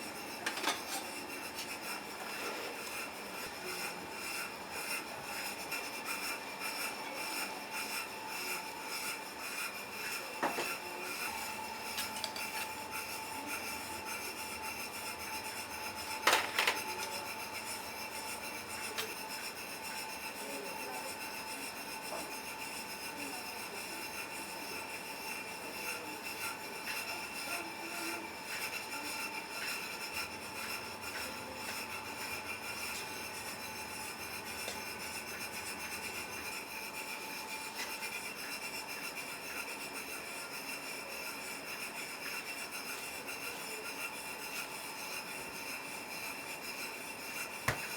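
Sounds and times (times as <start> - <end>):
scraping and rubbing: 0.1 - 47.9.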